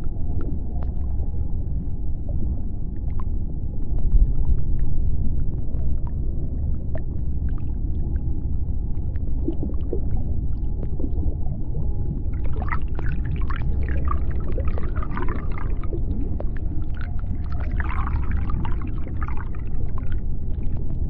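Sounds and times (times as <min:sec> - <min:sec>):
deep underwater rumble: 0:00.0 - 0:21.0.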